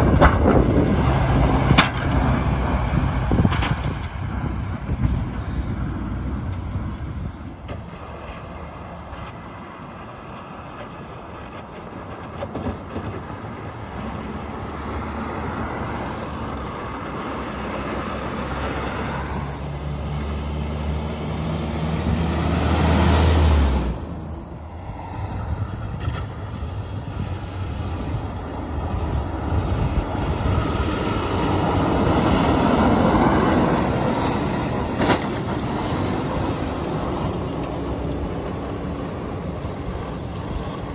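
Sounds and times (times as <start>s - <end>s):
diesel trucks passing: 0.0s - 40.9s.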